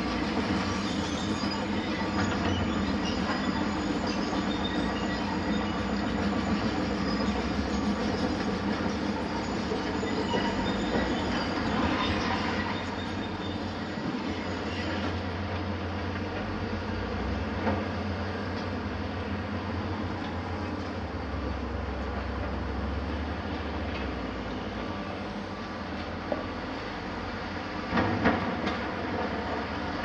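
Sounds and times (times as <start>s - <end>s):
heavy demolition machinery running: 0.0s - 30.0s.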